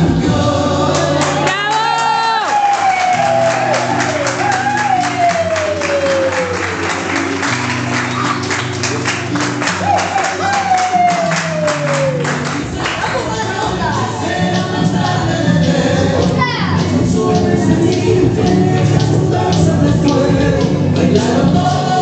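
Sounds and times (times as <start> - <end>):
folk dance music: 0.0 - 22.0
handclaps keeping time: 0.9 - 21.8.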